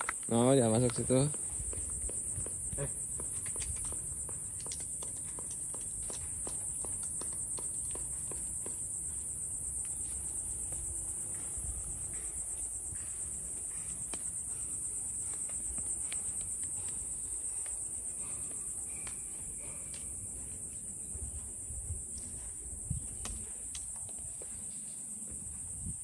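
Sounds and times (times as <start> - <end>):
insect chorus trilling: 0.0 - 26.0.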